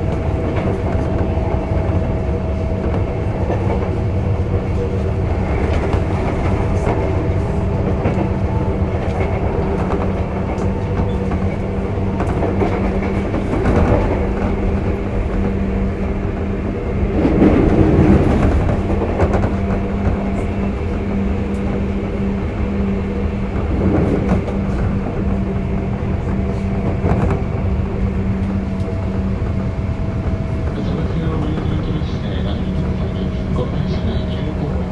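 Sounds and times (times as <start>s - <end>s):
train motor and gear hum: 0.0s - 34.9s
wheels rumbling on track: 0.0s - 34.9s.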